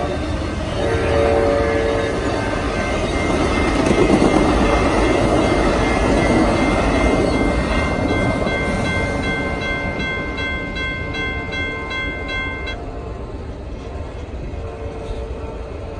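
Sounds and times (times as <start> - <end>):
crossing bell ringing: 0.0 - 13.0
passenger train rumbling past: 0.0 - 15.9.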